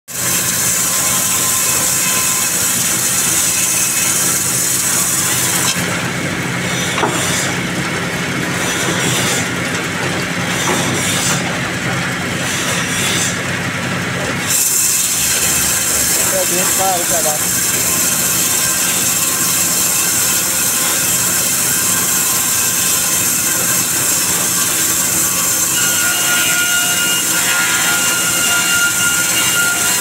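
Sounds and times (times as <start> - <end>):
band saw cutting log: 0.1 - 30.0.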